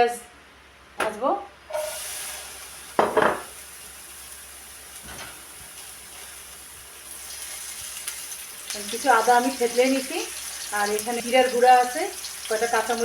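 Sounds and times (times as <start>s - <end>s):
onions sizzling in hot oil: 1.7s - 13.0s.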